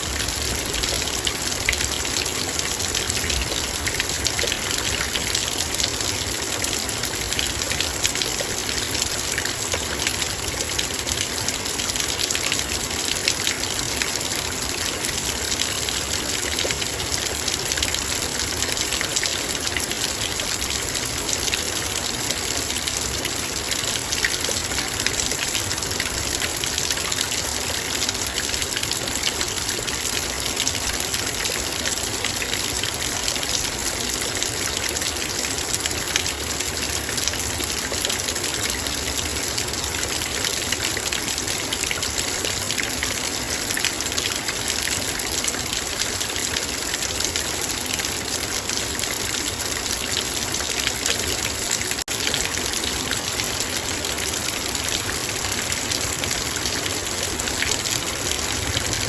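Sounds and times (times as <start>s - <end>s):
heavy rain drumming on metal bowl: 0.0s - 59.0s.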